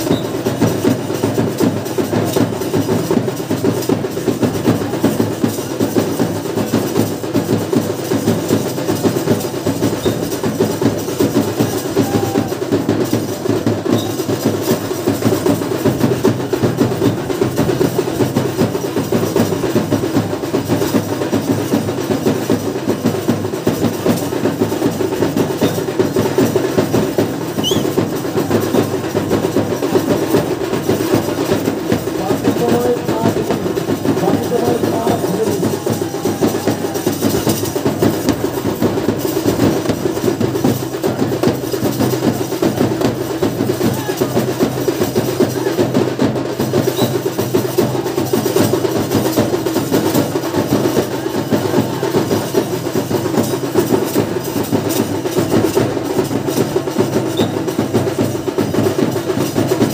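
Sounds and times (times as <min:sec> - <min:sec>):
drums beaten rapidly: 0:00.0 - 0:59.9.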